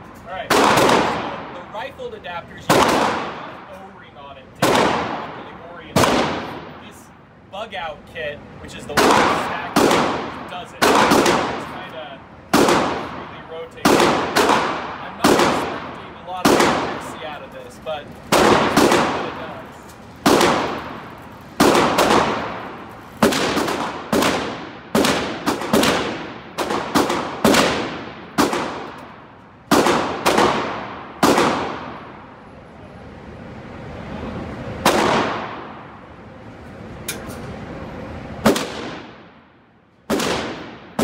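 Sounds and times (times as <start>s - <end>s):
echoing gunshots: 0.4s - 3.9s, 4.5s - 7.2s, 8.9s - 32.2s, 34.8s - 36.0s, 38.4s - 41.0s.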